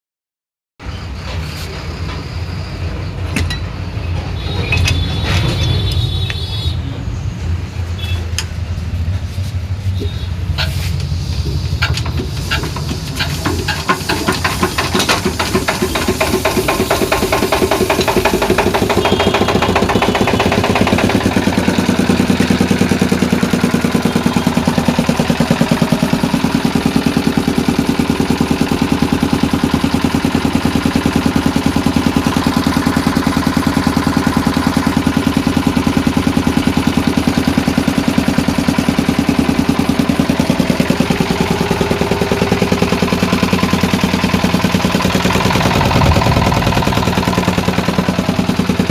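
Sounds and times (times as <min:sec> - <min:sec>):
air compressor chugging: 0:07.6 - 0:48.9.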